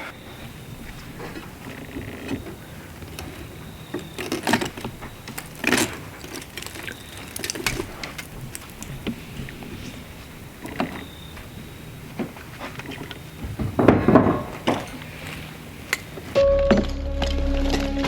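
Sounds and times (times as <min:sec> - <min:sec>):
knocks and clatter on timbers: 0:00.4 - 0:15.4.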